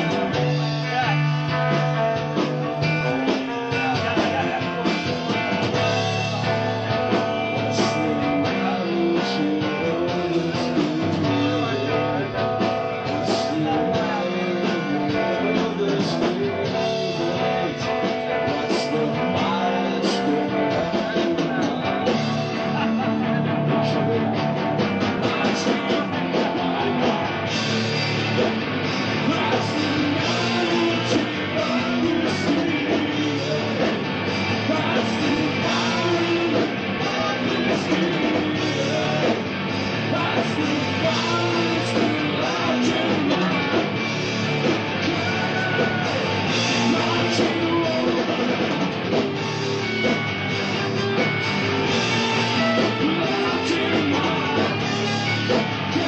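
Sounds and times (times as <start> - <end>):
person singing: 0.0 - 27.5, 29.2 - 44.0, 44.6 - 48.8, 52.0 - 56.0
drum kit: 0.0 - 56.0
electric guitars: 0.0 - 56.0.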